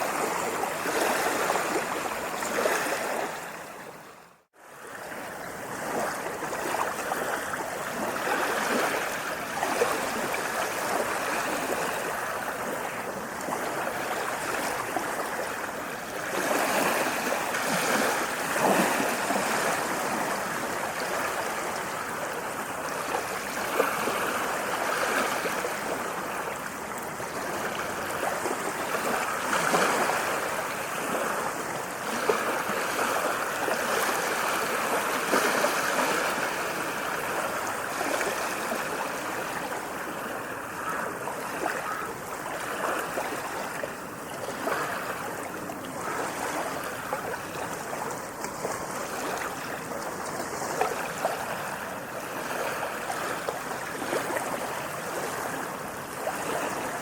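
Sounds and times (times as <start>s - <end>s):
sea waves washing onto shore: 0.0s - 57.0s.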